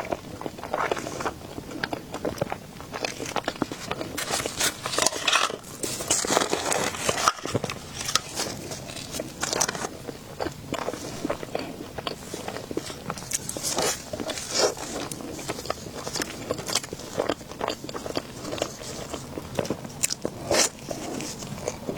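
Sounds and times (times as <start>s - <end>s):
person chewing food: 0.0s - 21.9s.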